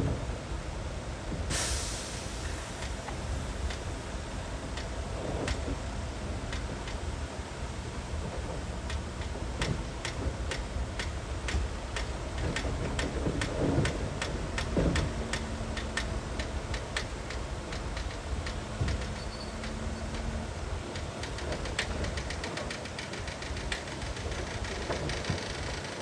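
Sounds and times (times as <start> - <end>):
low diesel engine rumble: 0.0 - 26.0
track links clanking: 1.3 - 26.0.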